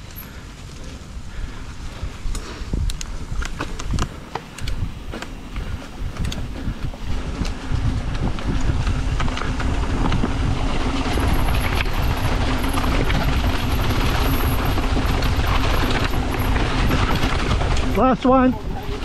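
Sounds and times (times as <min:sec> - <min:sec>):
wind and tyres rumbling: 0:00.0 - 0:19.0
bike knocks and rattles: 0:02.8 - 0:19.0.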